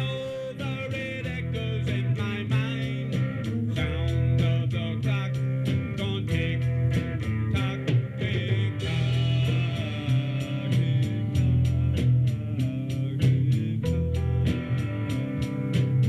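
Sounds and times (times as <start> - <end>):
guitar-led music with steady beat: 0.0 - 16.0.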